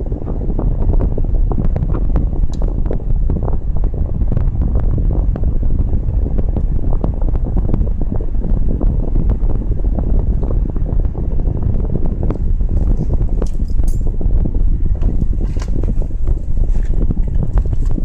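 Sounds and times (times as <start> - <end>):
air vent blower rushing: 0.0 - 18.0.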